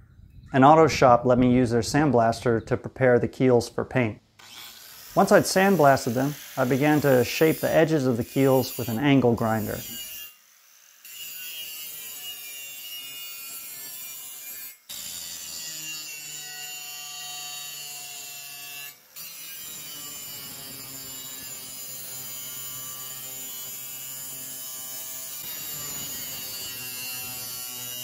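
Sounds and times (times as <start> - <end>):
angle grinder grinding steel: 4.4 - 28.0.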